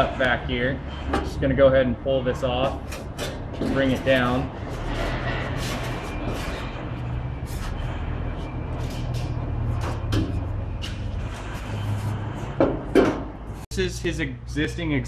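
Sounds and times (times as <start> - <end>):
metal scraping and clunking: 0.0 - 13.7
steady low hum: 0.0 - 15.0.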